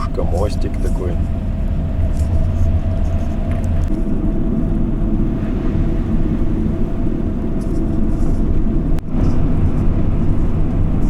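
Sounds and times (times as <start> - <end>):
van engine and tyre rumble: 0.0 - 11.0.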